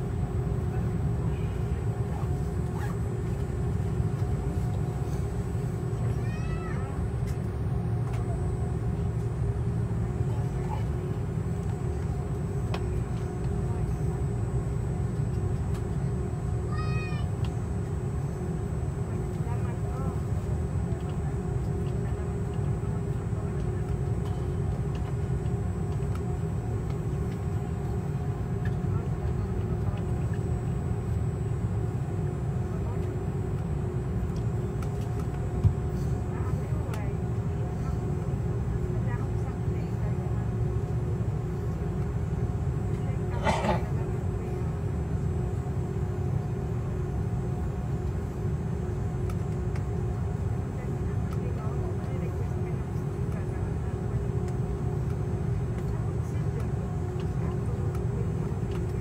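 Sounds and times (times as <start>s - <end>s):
airliner cabin rumble: 0.0s - 59.0s
steady hum: 0.0s - 59.0s.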